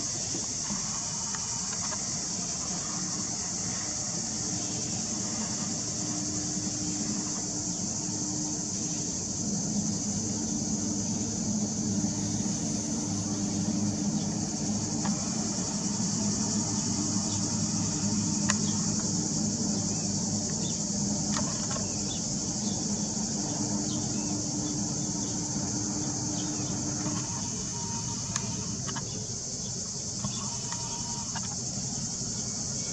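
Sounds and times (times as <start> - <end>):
cicadas droning: 0.0 - 32.9
ship engines humming: 0.0 - 32.9.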